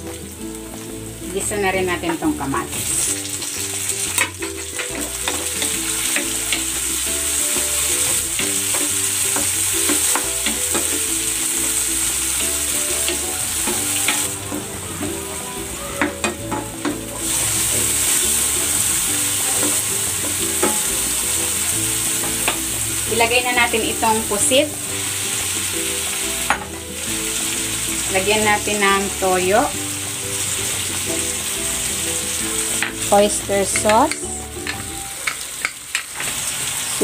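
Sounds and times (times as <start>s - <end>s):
background music: 0.0s - 35.9s
vegetables sizzling in hot oil: 0.0s - 37.0s.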